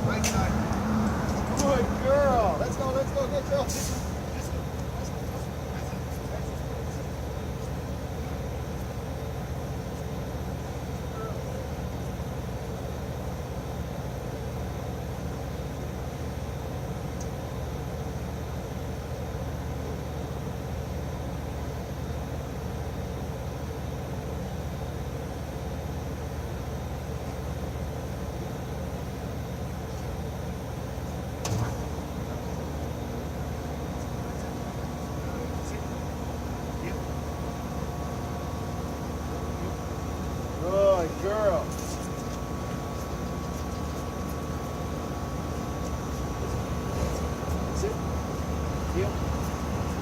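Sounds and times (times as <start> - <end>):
rumbling background noise with hiss: 0.0 - 50.0.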